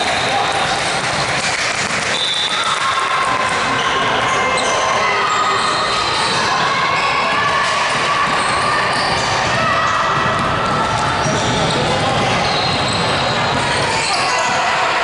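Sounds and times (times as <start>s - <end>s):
echoing voices: 0.0s - 15.0s.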